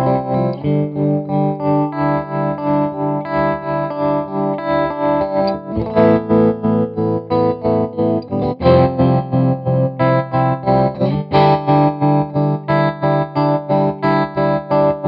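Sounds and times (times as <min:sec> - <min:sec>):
electric guitar chords with tremolo: 0:00.0 - 0:15.0.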